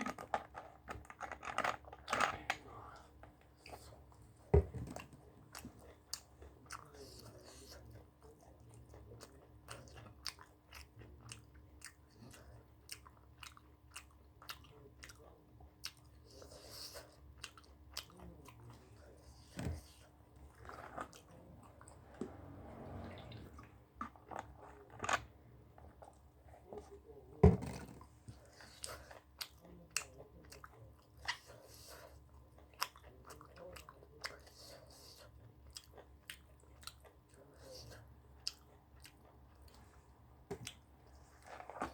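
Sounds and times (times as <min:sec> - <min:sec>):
faint steady hum: 0:00.0 - 0:41.9
person chewing food: 0:02.8 - 0:22.4, 0:23.0 - 0:41.9.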